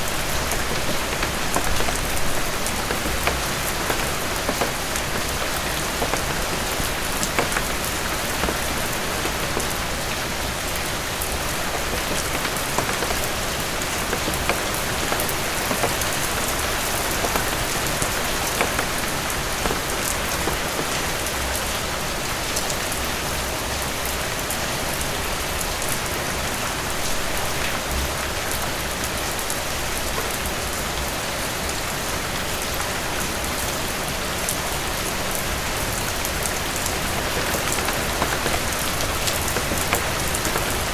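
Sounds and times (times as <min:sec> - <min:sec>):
heavy rain falling: 0:00.0 - 0:40.9
raindrops pattering on surface: 0:00.0 - 0:40.9.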